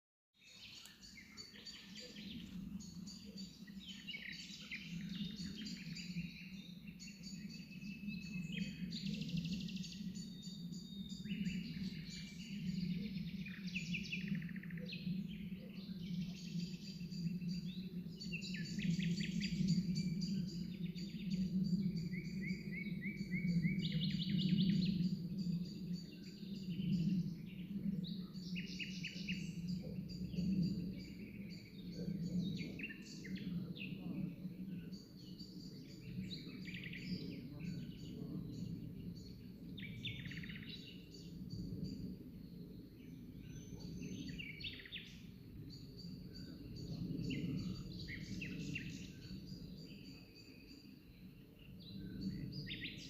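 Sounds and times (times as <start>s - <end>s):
birds chirping and singing: 0.4s - 53.0s.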